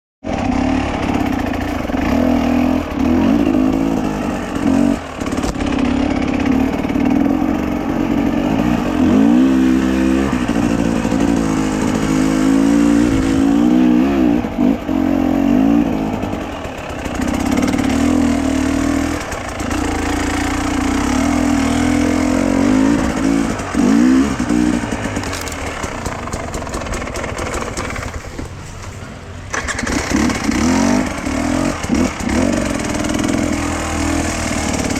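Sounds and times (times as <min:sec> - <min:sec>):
vehicle engine running: 0:00.2 - 0:34.9.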